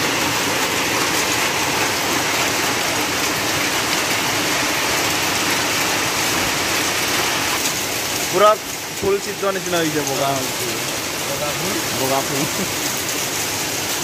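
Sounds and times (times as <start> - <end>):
heavy rain and hail: 0.0 - 14.0.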